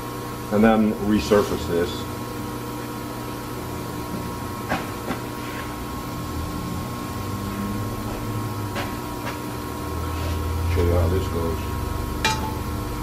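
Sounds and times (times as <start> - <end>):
shop machinery humming: 0.0 - 13.0.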